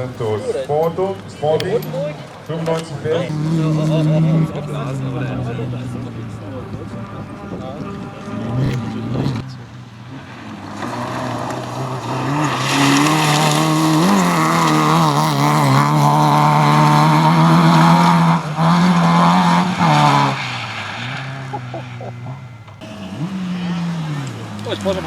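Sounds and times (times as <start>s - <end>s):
rally car engine at high revs: 0.0s - 25.0s.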